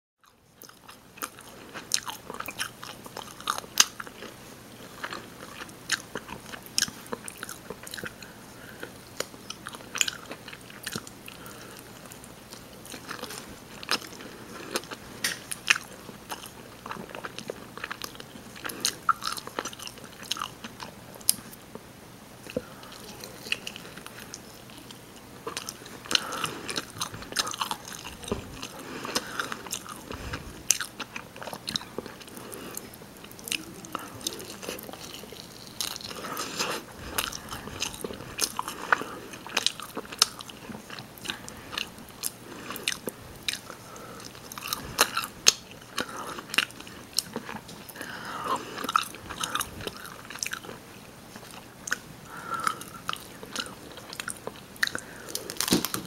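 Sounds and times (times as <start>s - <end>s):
chewing and biting chicken: 0.2s - 21.6s, 22.5s - 50.8s, 51.4s - 56.0s.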